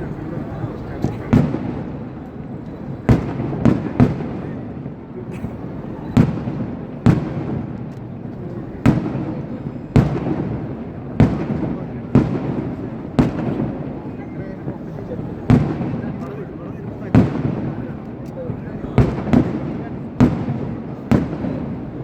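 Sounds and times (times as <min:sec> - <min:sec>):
fireworks bangs with echo: 0:00.0 - 0:22.0.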